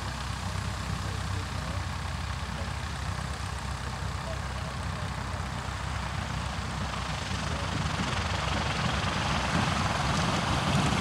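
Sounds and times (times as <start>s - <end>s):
piston aircraft engine rumbling: 0.0s - 11.0s.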